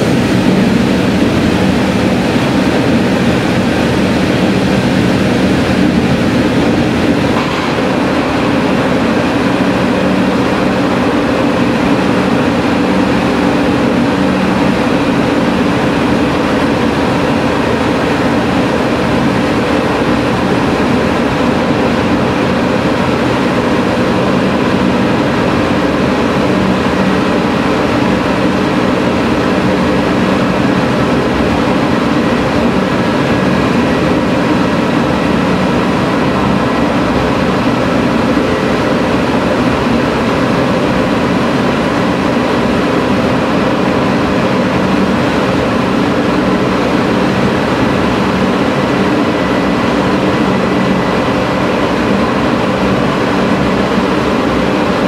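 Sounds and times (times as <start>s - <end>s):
railcar engine and wheel noise: 0.0s - 55.0s.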